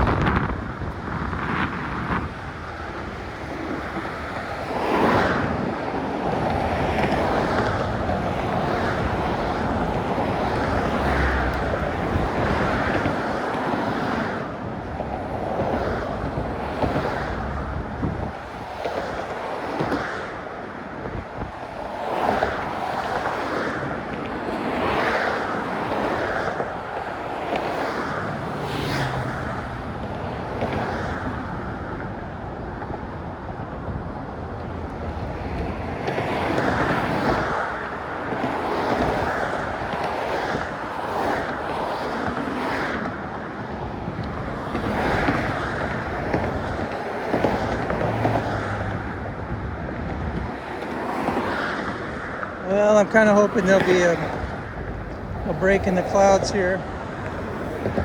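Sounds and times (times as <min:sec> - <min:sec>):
traffic noise: 0:00.0 - 0:58.0
wind gusting on microphone: 0:00.0 - 0:58.0.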